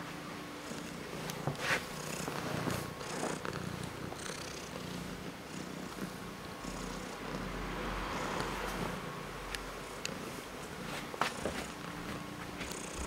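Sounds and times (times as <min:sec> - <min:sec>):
cat purring: 0:00.6 - 0:13.0.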